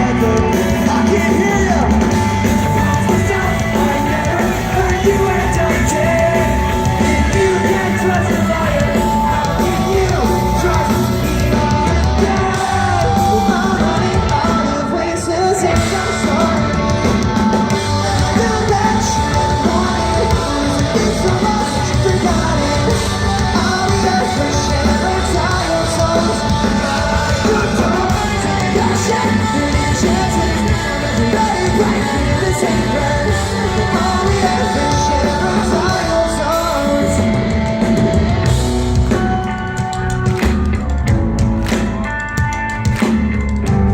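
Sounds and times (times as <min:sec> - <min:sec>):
vocalist singing and yelling: 0:00.0 - 0:41.1
pop-punk band playing live: 0:00.0 - 0:43.9.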